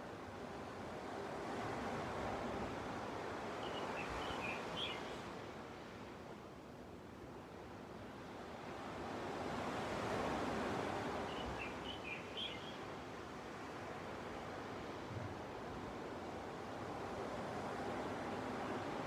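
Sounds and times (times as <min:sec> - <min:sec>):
ocean waves washing onto beach: 0:00.0 - 0:19.0.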